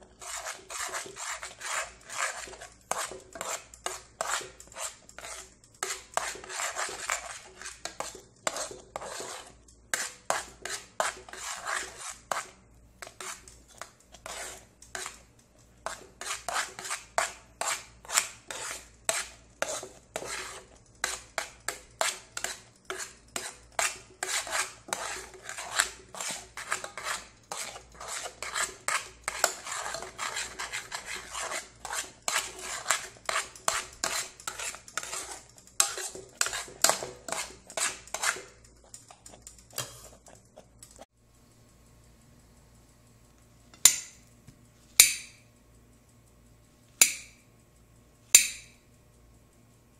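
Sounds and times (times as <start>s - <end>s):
spoon scraping a metal pot: 0.0s - 41.1s.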